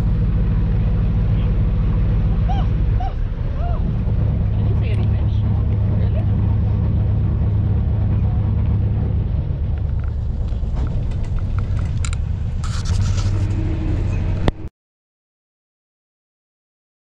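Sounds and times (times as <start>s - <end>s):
boat engine droning: 0.0s - 14.7s.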